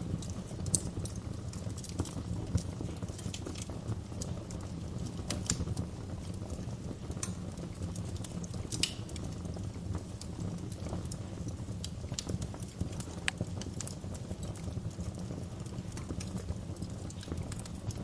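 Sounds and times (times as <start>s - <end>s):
fire crackling: 0.0s - 18.0s
loud fire pops: 0.0s - 18.0s
low fire rumble: 0.0s - 18.0s.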